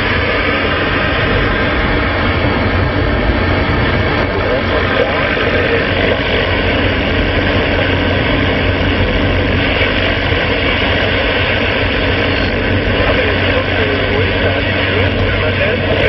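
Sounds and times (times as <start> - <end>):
vehicle engine drone: 0.0 - 16.0.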